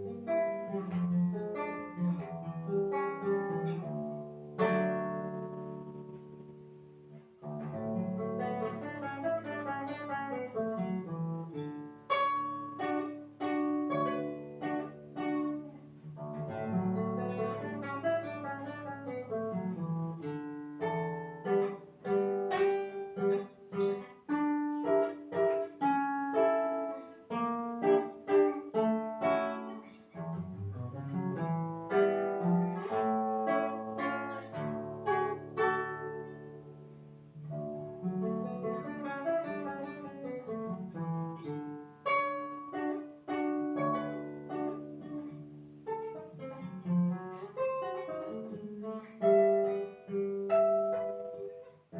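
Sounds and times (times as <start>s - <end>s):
solo acoustic guitar: 0.0s - 51.9s.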